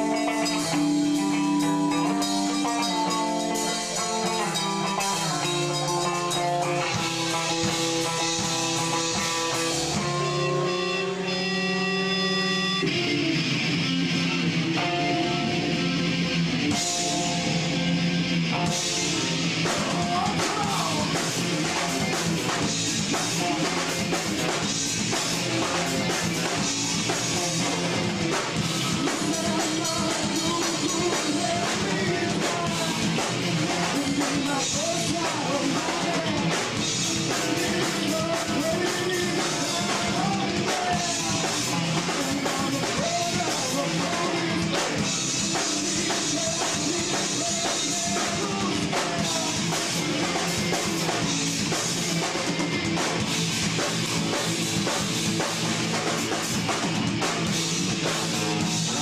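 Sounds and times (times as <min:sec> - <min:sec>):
person singing through pa: 0:00.0 - 0:13.2, 0:18.6 - 0:53.0, 0:58.0 - 0:59.0
drum kit: 0:00.0 - 0:59.0
electric guitars: 0:00.0 - 0:59.0.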